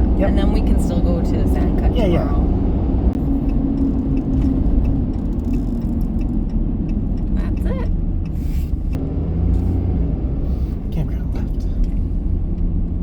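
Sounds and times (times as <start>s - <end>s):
engine and road noise in cab: 0.0s - 13.0s.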